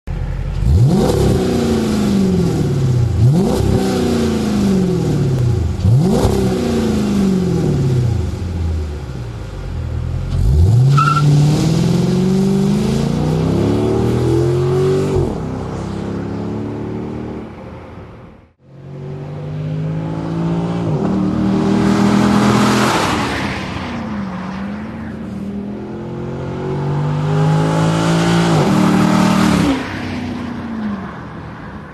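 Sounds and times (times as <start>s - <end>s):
car engine revving and accelerating: 0.5s - 8.9s, 10.2s - 17.6s, 18.6s - 24.2s, 24.8s - 30.5s.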